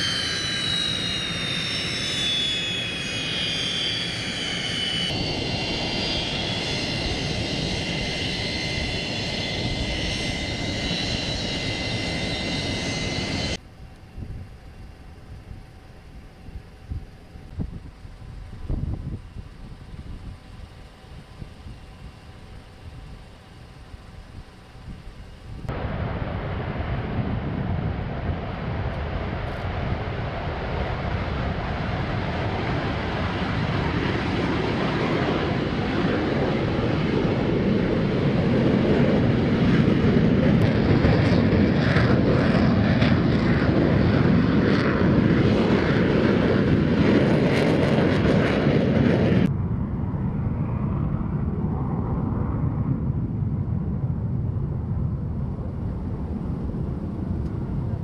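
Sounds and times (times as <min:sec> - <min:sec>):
jet engines at takeoff power: 0:00.0 - 0:58.0
quieter jet engine noise: 0:00.0 - 0:58.0.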